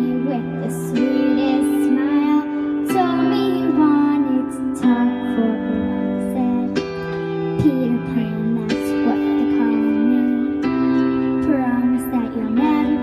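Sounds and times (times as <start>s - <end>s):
held chord accompaniment: 0.0s - 13.0s.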